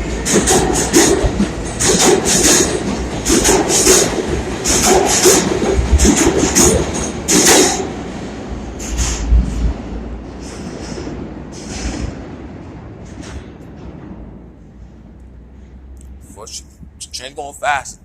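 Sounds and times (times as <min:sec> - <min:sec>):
subway train wheels clattering: 0:00.0 - 0:16.2
train rumble: 0:00.0 - 0:18.0.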